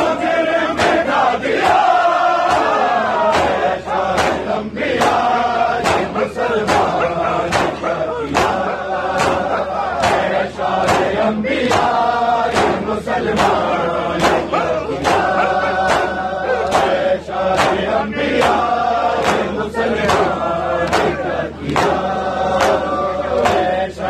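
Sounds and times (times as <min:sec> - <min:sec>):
men chanting together: 0:00.0 - 0:24.0
men striking chests in unison: 0:00.0 - 0:24.0.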